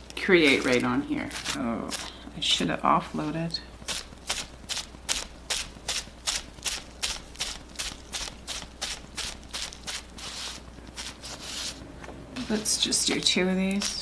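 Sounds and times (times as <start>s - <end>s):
bubble wrap patting on paper: 0.0s - 11.8s, 12.4s - 14.0s.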